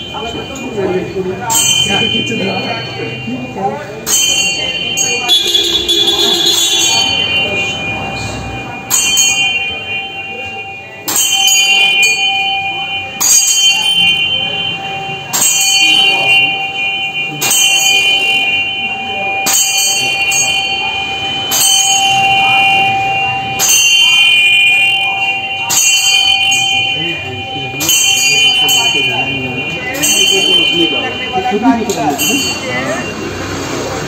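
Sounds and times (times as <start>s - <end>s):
prayer wheel bell ringing: 0.0s - 34.0s.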